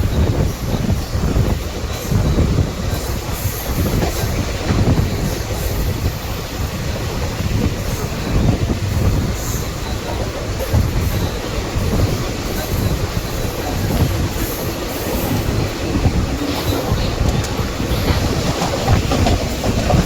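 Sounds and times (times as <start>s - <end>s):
train rumbling along track: 0.0s - 20.0s
wheels clacking over rail joints: 0.0s - 20.0s.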